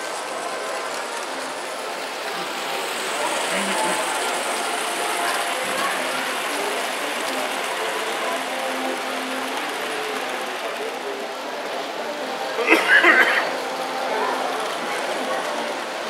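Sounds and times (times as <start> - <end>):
model trains rattling on track: 0.0 - 16.0.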